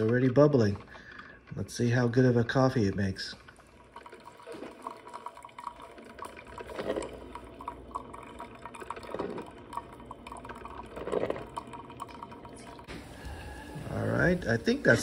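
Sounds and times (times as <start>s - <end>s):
coffee maker bubbling and gurgling: 0.0s - 15.0s.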